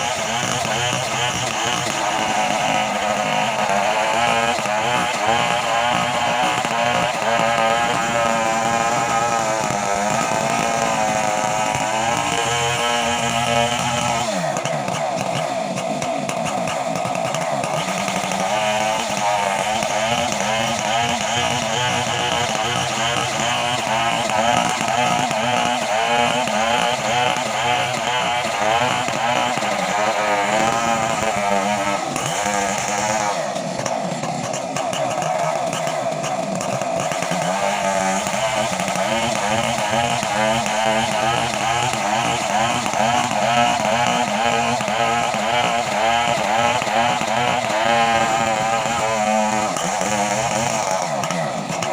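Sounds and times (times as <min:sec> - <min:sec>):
chainsaw engine at high revs: 0:00.0 - 0:51.9.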